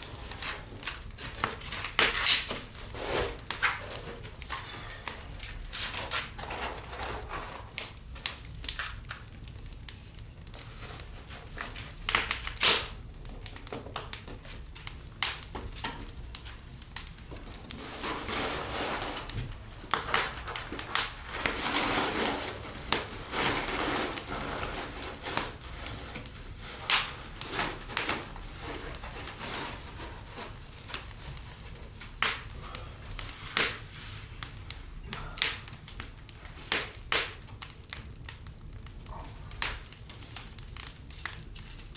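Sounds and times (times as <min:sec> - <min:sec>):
foil sheet crinkling: 0:00.0 - 0:06.4, 0:07.7 - 0:41.9.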